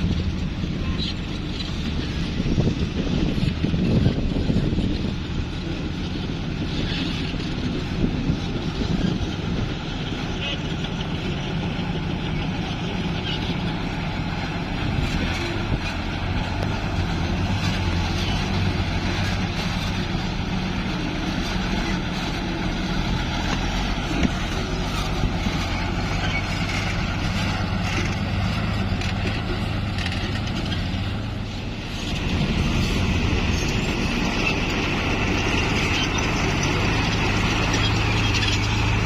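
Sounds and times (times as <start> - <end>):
truck engine humming: 0.0 - 39.0.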